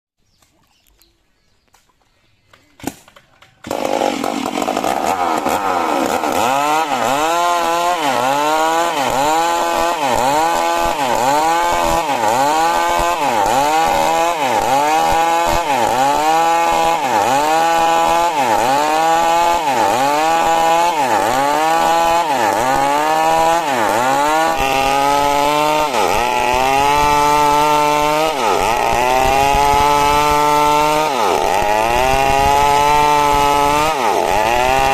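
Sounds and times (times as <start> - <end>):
chainsaw cutting wood: 2.7 - 34.9.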